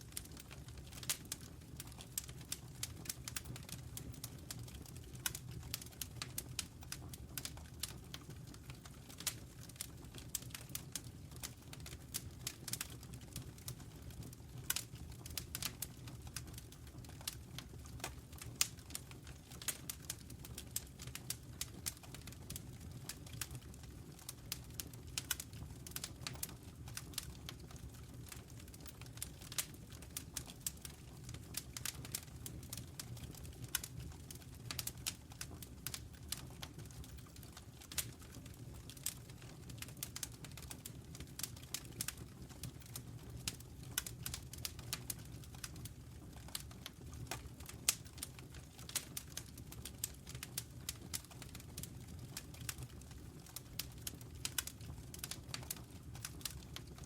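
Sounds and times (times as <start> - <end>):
low rumble of fire: 0.0 - 57.0
wood fire snaps and pops: 0.0 - 57.0.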